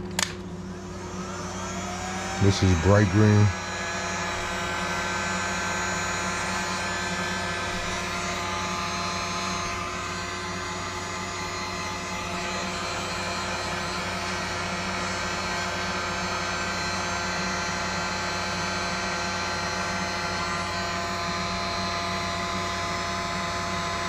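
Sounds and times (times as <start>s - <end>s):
heat gun fan whirring: 0.0s - 24.0s.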